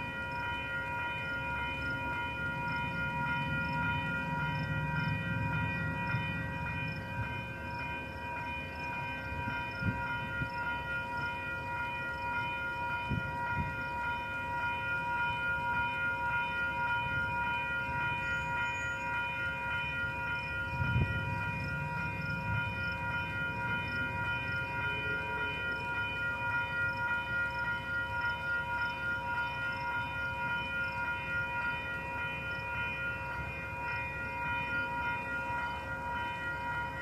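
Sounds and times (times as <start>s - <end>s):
freight train rumbling past: 0.0s - 37.0s
steady high ringing tones: 0.0s - 37.0s.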